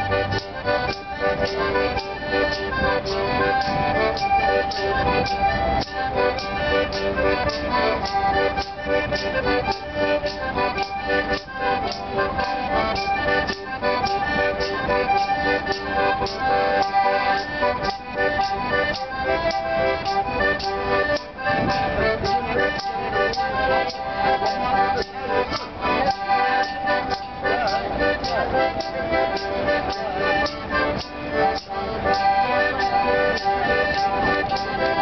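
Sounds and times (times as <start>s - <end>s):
piano accordion playing a tune: 0.0s - 35.0s.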